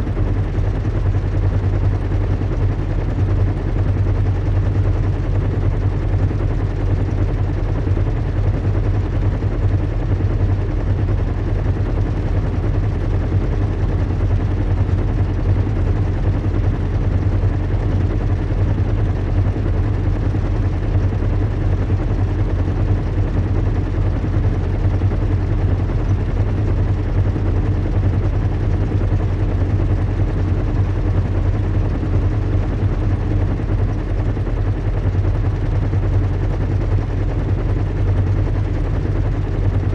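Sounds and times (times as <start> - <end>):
deep engine drone: 0.0 - 39.9.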